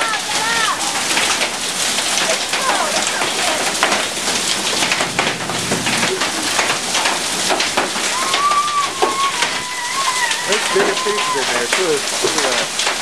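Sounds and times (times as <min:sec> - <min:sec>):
heavy rain downpour: 0:00.0 - 0:13.0
hailstones striking surfaces: 0:00.1 - 0:13.0.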